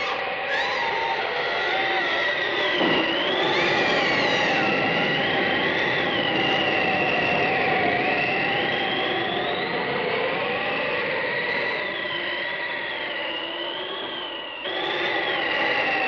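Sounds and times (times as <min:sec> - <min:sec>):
eerie wavering whistling tones: 0:00.0 - 0:16.0.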